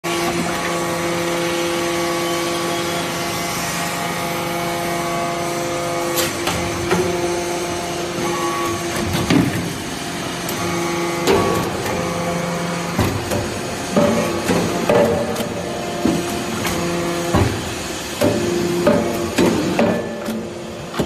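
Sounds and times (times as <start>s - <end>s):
hydraulic pump hum: 0.1s - 21.0s.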